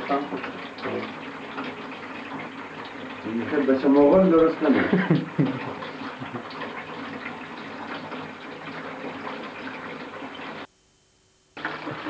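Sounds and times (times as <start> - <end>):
tap running into bathtub: 0.0 - 10.7, 11.6 - 12.0.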